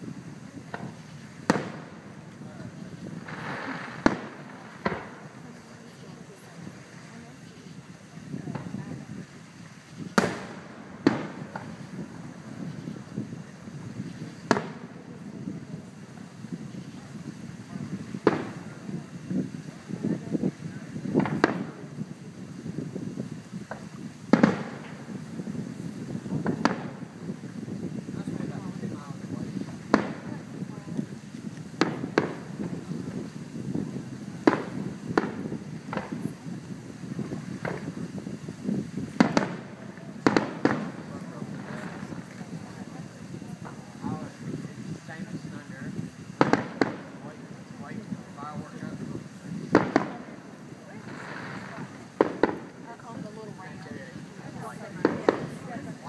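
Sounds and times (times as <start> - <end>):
firework shells bursting: 0.0 - 56.0.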